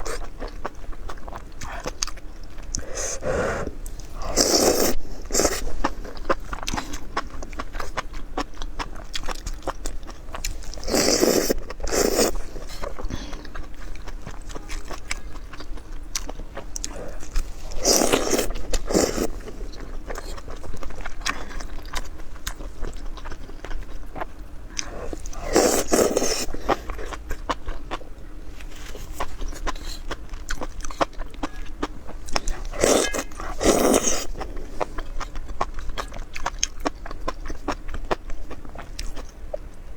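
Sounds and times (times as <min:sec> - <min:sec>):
chewing with crunching: 0:00.0 - 0:39.9.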